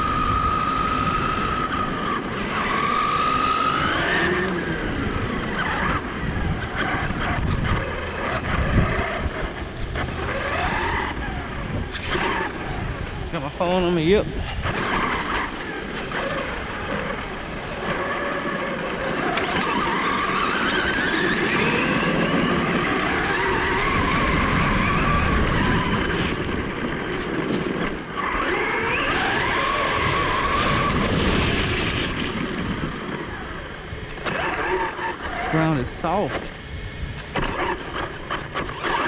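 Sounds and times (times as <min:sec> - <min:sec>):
electric toy car motor whine: 0:00.0 - 0:39.0.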